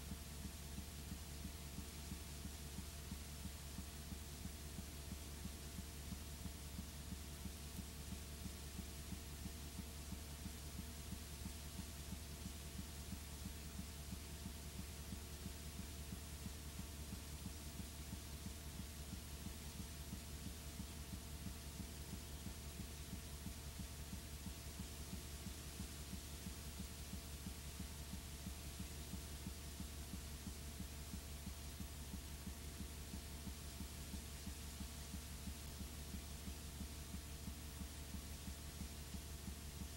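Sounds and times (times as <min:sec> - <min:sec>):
faint hiss: 0:00.0 - 0:39.9
low electrical hum: 0:00.0 - 0:39.9.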